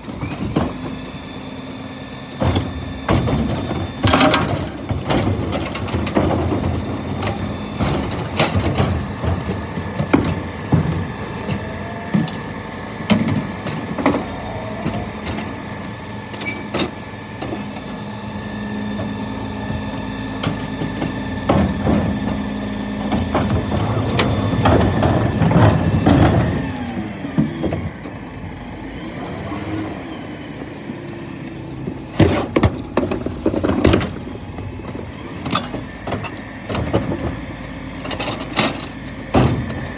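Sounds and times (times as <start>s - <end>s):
truck hydraulics hum and whine: 0.0s - 39.9s
bins knocking and banging: 2.4s - 28.2s, 31.2s - 39.9s.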